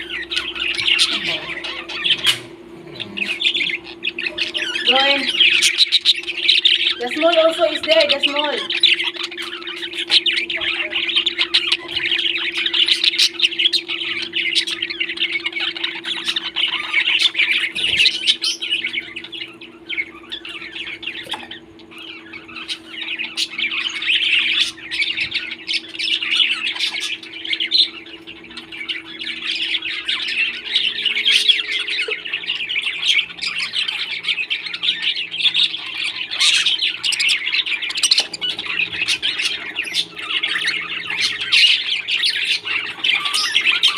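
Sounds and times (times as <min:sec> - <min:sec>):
parrots chirping and squawking: 0:00.0 - 0:43.9
steady low hum: 0:00.0 - 0:43.9.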